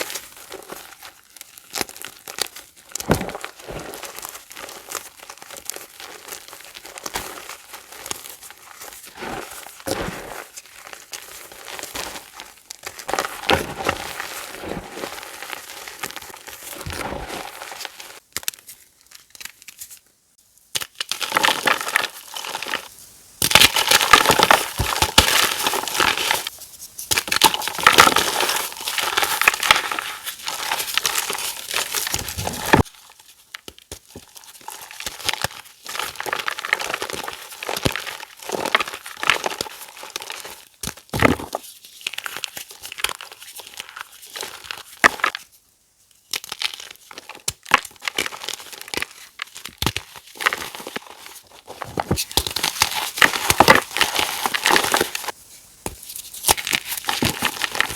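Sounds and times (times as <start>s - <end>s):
chalk being crushed by hand: 0.0s - 20.0s, 20.7s - 45.5s, 46.3s - 55.3s, 55.9s - 57.9s.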